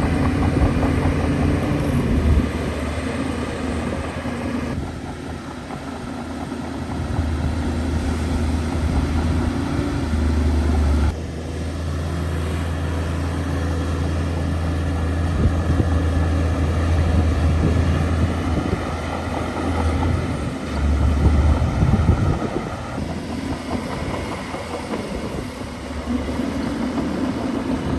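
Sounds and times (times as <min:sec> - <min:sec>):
bulldozer diesel engine drone: 0:00.0 - 0:27.9.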